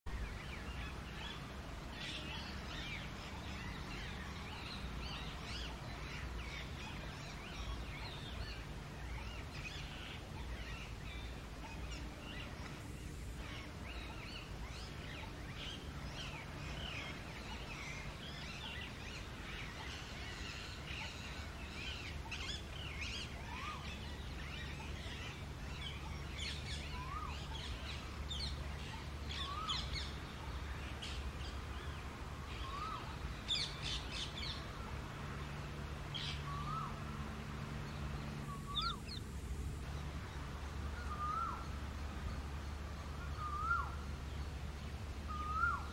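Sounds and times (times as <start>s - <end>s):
birds chirping and calling: 0.1s - 34.8s, 36.1s - 37.0s, 37.8s - 45.9s
low background rumble: 0.1s - 45.9s.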